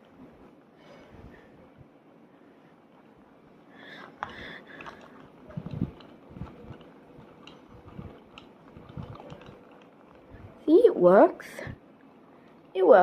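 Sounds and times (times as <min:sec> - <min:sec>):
ceiling fan hum: 0:00.0 - 0:13.0.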